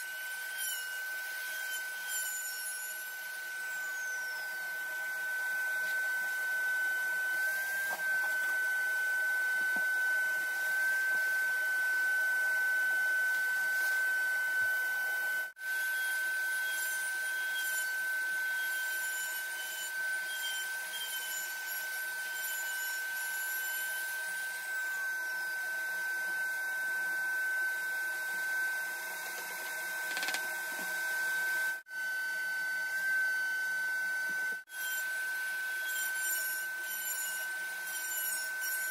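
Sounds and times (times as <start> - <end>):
trim router whining: 0.0 - 38.9.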